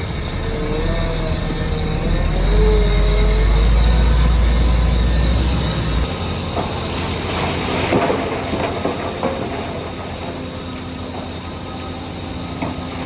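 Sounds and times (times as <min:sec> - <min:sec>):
heavy machinery engine rumble: 0:00.0 - 0:13.0
hiss: 0:00.0 - 0:13.0.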